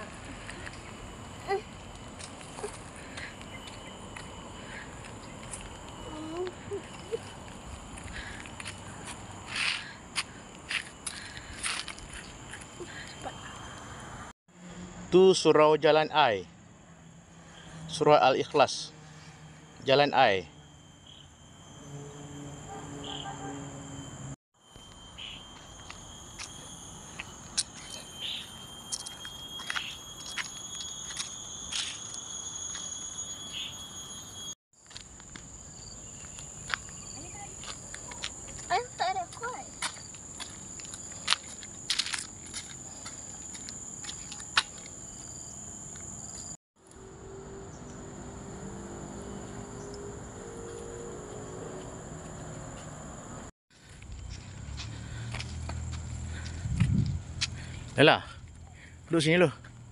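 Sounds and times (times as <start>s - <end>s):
insects whining: 0.0s - 59.9s.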